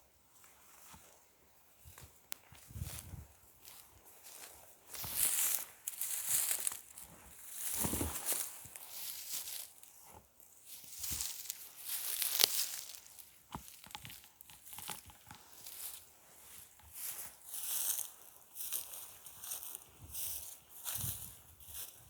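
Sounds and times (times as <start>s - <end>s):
dry leaves crunching and rustling: 2.6s - 10.0s, 10.6s - 22.0s.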